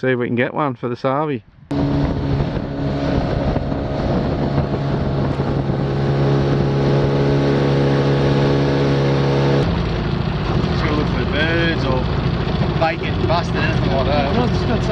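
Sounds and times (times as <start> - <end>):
outboard motor humming: 1.7 - 14.9
wind and water rushing: 1.7 - 14.9.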